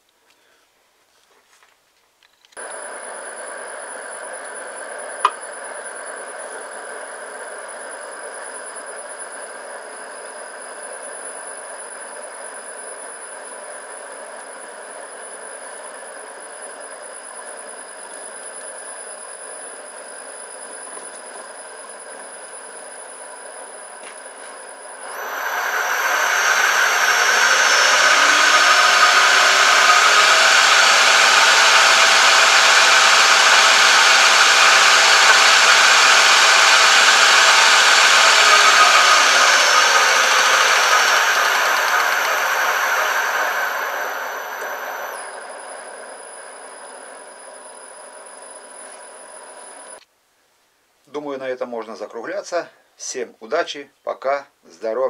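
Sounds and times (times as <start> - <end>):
metal lathe whirring: 2.6 - 50.0.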